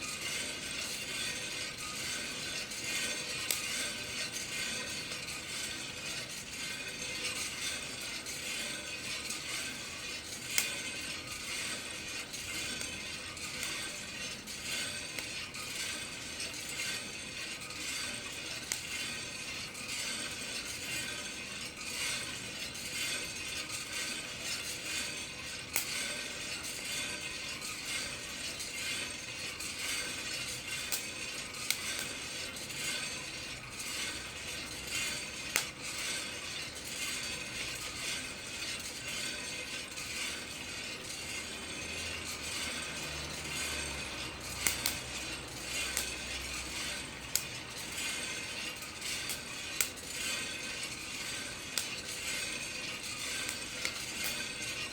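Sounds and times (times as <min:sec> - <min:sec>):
coffee beans rattling in drum: 0:00.0 - 0:54.9.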